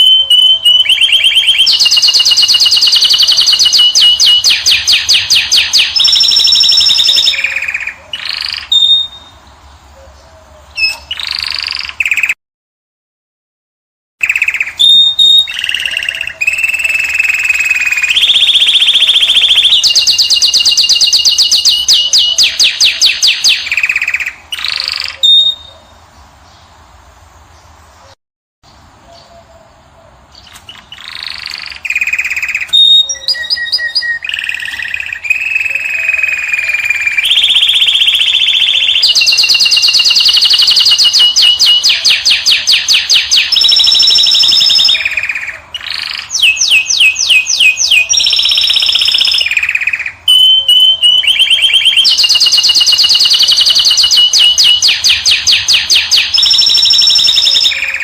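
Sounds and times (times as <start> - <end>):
finch singing: 0.0 - 12.4, 14.2 - 26.8, 27.6 - 58.0.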